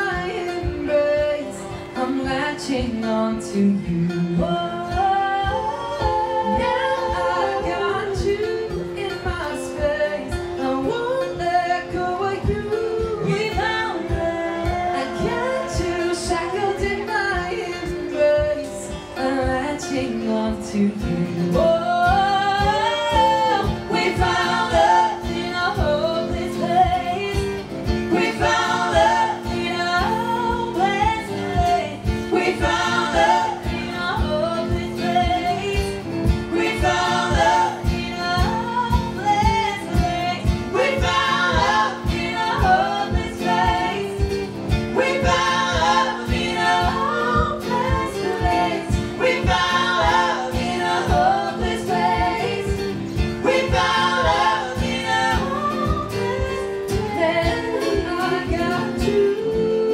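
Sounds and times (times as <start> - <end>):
male and female voices singing: 0.0 - 59.9
strummed acoustic guitar: 0.0 - 59.9.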